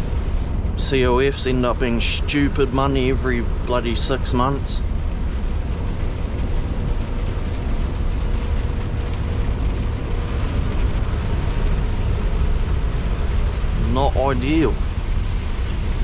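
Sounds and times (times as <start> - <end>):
road noise: 0.0 - 16.0
truck engine rumbling: 0.0 - 16.0.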